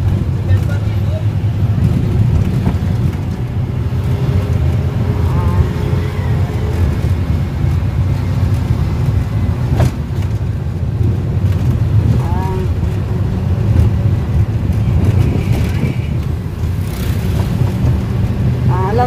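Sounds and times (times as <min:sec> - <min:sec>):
vehicle engine and road drone: 0:00.0 - 0:19.0.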